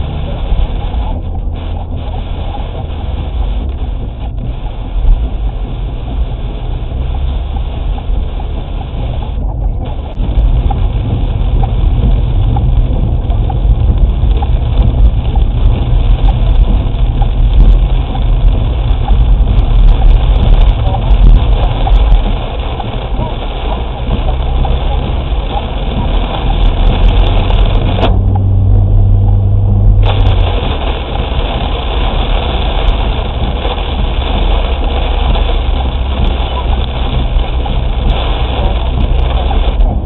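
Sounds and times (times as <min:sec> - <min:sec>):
engine and tyres rumbling: 0:00.0 - 0:40.0
hiss of water and rain: 0:00.0 - 0:40.0.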